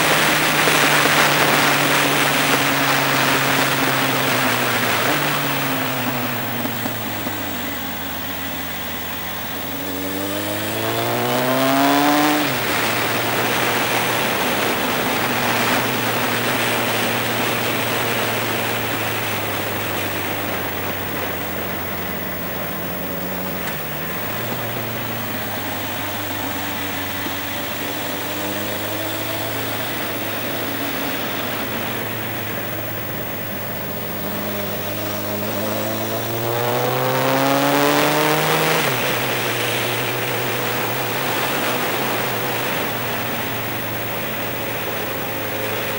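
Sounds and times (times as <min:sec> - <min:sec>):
motorcycle engine revving: 0:00.0 - 0:45.9
wind and road noise: 0:00.0 - 0:45.9.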